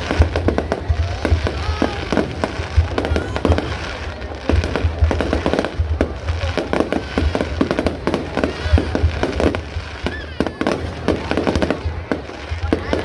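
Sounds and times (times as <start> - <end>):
deep firework booms: 0.0 - 13.0
firework bangs and crackles: 0.0 - 13.0.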